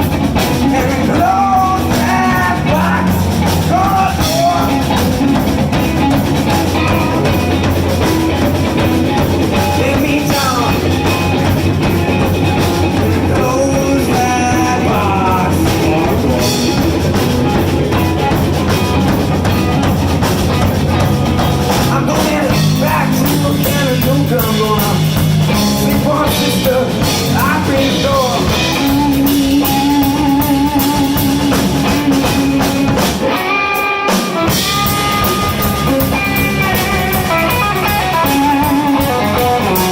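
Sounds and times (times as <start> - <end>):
bass guitar: 0.0 - 39.9
drum kit: 0.0 - 39.9
electric guitar lines: 0.0 - 39.9.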